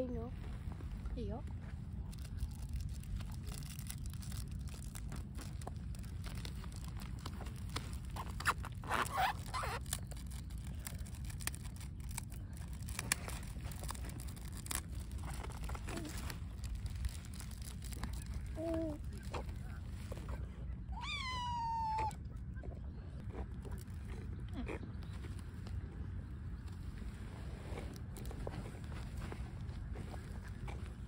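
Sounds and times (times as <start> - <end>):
low rumble: 0.0 - 31.0
rustling and crinkling: 0.0 - 31.0.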